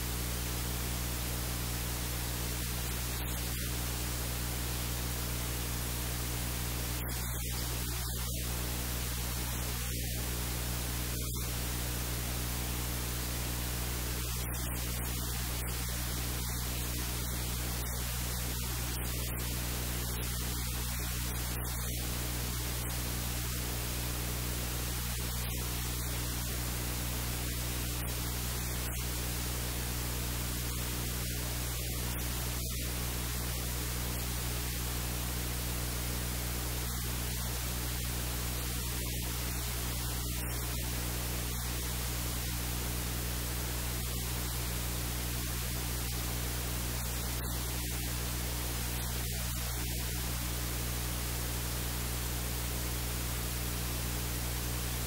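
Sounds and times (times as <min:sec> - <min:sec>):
low electrical hum: 0:00.0 - 0:55.0
static hiss: 0:00.0 - 0:55.0.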